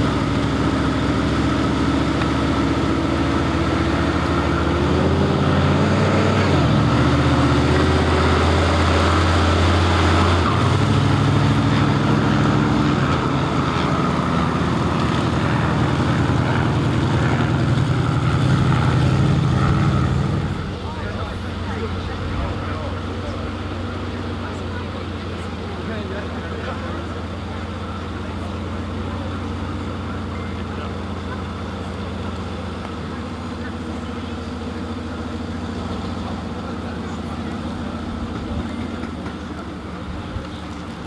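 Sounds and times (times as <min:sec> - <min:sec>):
engine running: 0:00.0 - 0:41.0.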